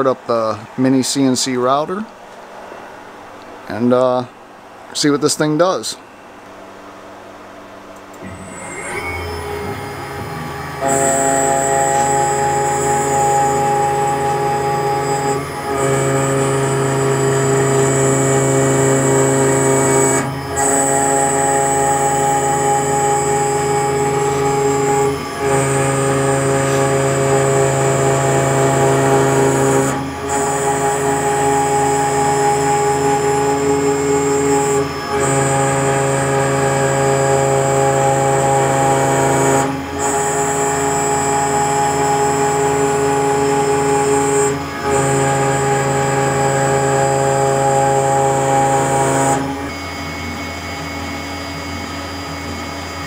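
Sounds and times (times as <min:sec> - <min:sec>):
cnc router motor whine: 0:08.1 - 0:53.0.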